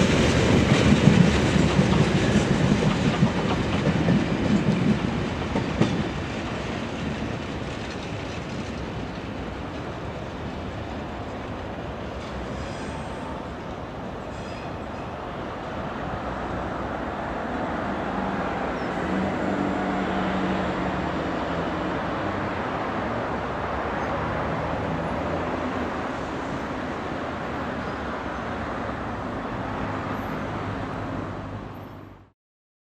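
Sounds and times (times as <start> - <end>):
train wheels rumbling: 0.0 - 27.9
low locomotive engine hum: 0.0 - 32.3.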